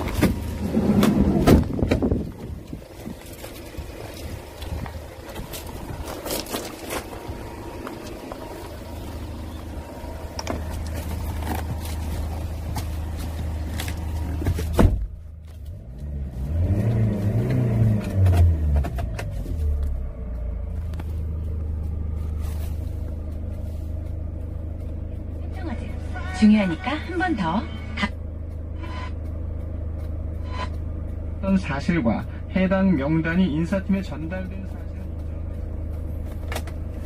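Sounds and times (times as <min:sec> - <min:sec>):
van engine idling: 0:00.0 - 0:37.0.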